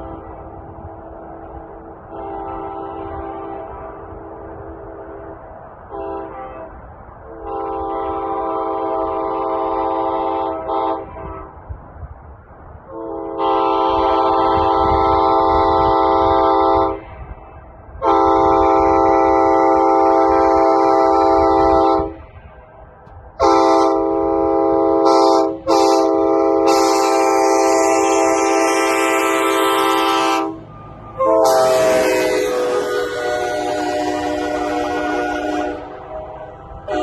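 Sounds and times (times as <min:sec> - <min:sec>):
train horn chord blasts: 0:00.0 - 0:11.6, 0:12.9 - 0:17.1, 0:18.0 - 0:22.2, 0:23.4 - 0:37.0.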